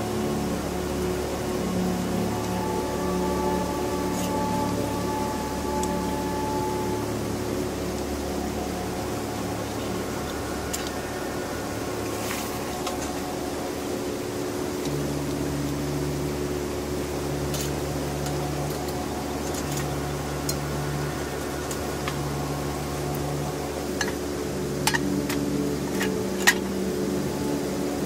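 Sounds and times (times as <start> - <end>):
camping stove burner roaring: 0.0 - 27.6.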